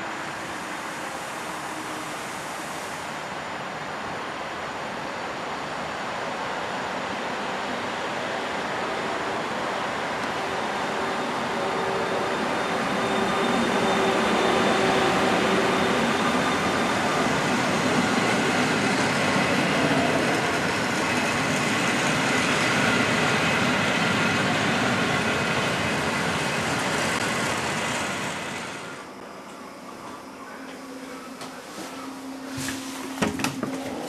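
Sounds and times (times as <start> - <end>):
passenger train on rails: 0.0 - 34.0.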